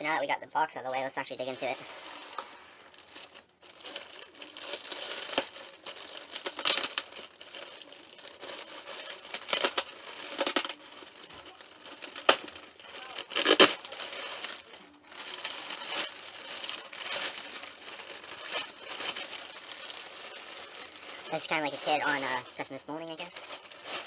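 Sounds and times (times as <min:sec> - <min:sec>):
packing material crinkling and tearing: 0:01.0 - 0:24.0.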